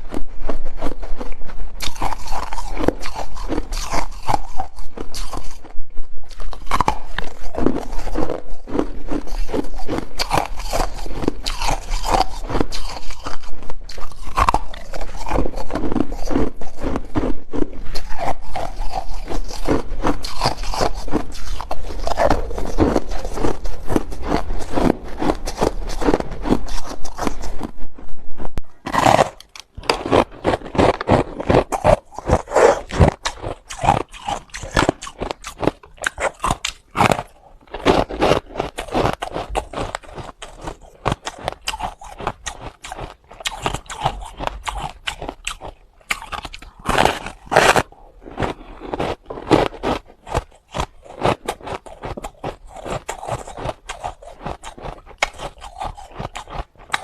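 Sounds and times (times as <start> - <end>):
ice being chewed crunching: 0.0 - 57.0.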